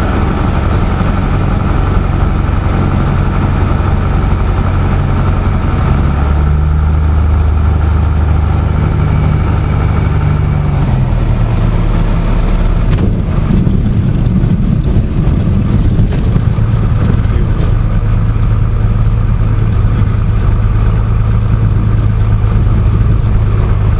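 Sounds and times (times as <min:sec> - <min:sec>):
propeller plane engine drone: 0:00.0 - 0:23.9.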